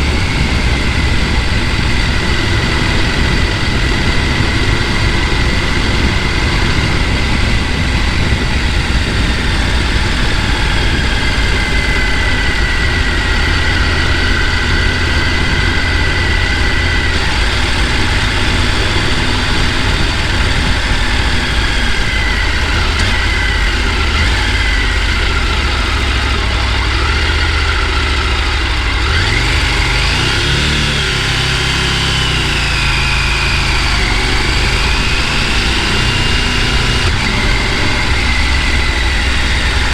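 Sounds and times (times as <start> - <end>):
motor vehicle rumbling: 0.0 - 39.9.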